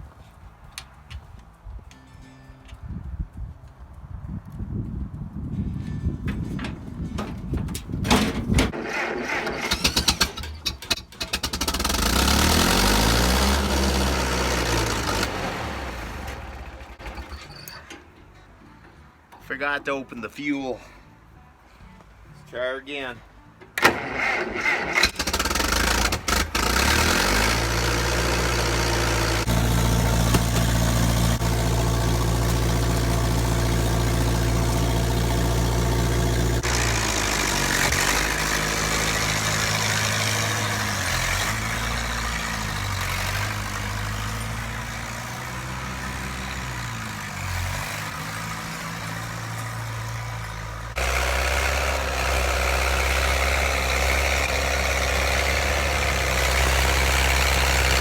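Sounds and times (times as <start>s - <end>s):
tractor engine running: 6.1s - 19.7s, 23.7s - 58.0s.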